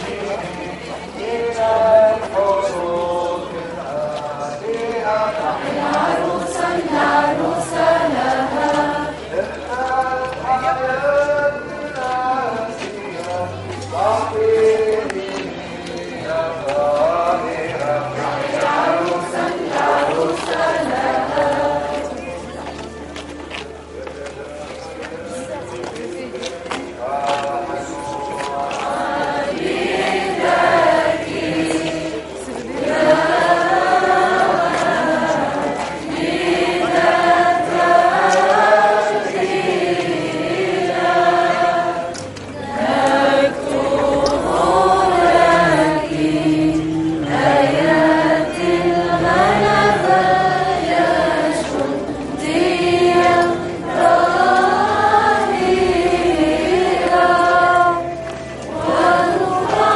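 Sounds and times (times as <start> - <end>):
crowd singing a hymn: 0.0 - 59.9.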